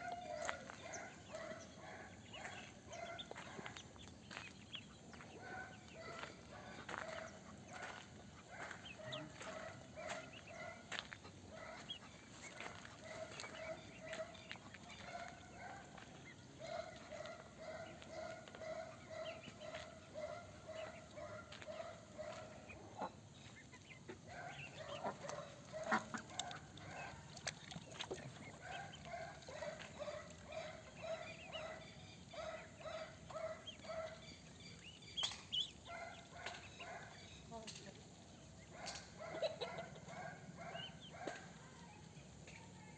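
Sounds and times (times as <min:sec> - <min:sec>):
ducks quacking: 0:00.0 - 0:37.4, 0:38.6 - 0:41.6.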